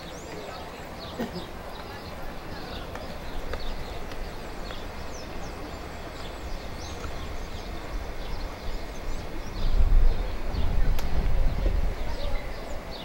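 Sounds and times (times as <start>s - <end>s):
small birds chirping: 0.0s - 13.0s
steady background noise: 0.0s - 13.0s.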